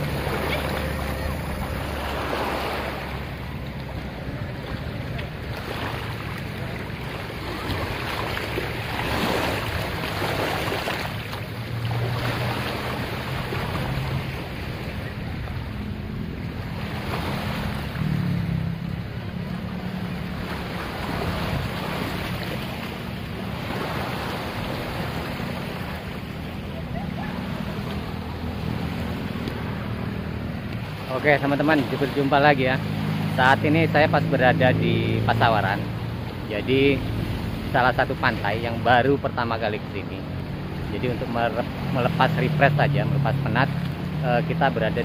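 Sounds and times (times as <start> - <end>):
small waves lapping on rocks: 0.0 - 45.0.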